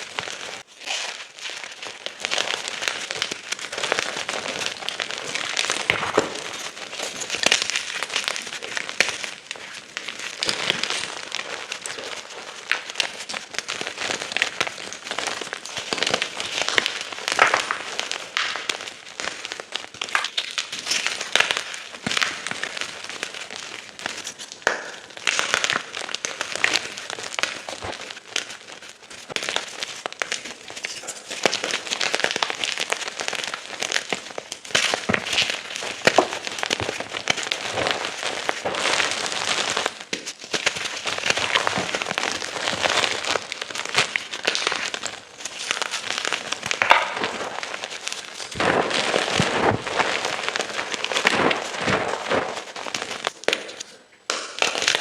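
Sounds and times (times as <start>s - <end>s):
chalk crunching and crackling: 0.0s - 55.0s.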